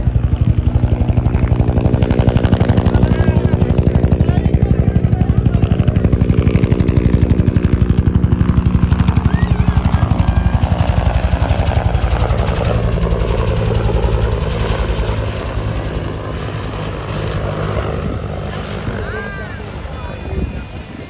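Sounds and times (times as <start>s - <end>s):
helicopter rotor beating: 0.0s - 21.0s
turbine hum: 0.0s - 21.0s.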